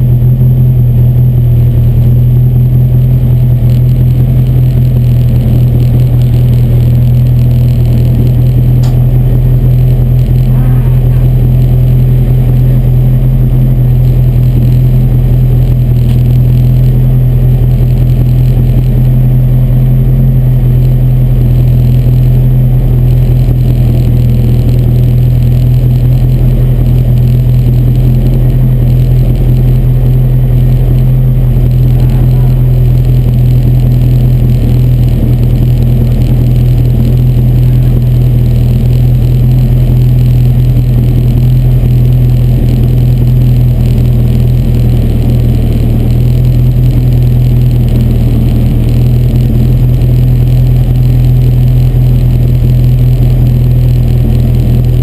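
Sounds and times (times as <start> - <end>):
race car engine idling: 0.0 - 55.0.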